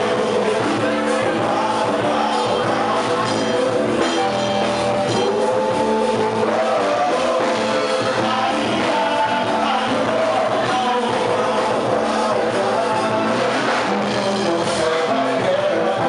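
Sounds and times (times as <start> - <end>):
band playing with singer: 0.0 - 16.0.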